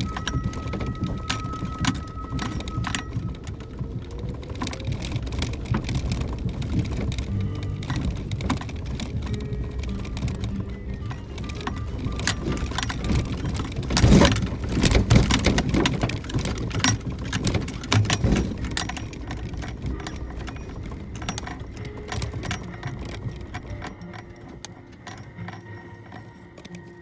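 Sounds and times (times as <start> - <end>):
clinks rattles and knocks: 0.0 - 27.0
engine and road rumble: 0.0 - 27.0.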